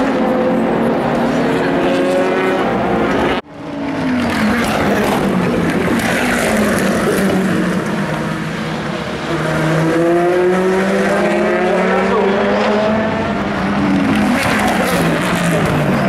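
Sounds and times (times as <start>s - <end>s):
car engine accelerating: 0.0s - 16.0s
race cars passing at speed: 0.0s - 16.0s.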